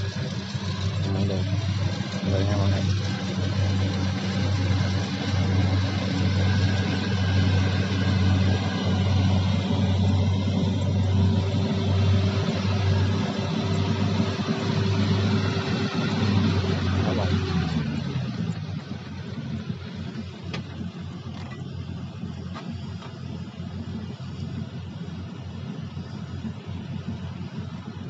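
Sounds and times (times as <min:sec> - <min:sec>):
combine harvester engine droning: 0:00.0 - 0:28.0.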